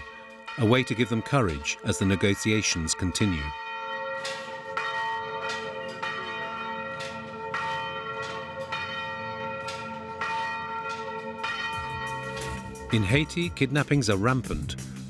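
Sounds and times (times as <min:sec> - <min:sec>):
church bells ringing: 0:00.0 - 0:14.6.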